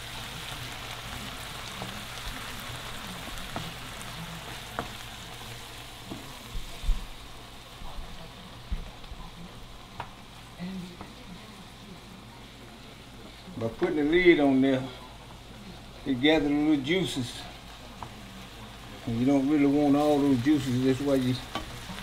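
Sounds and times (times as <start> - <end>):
vegetables sizzling in skillet: 0.0 - 22.0.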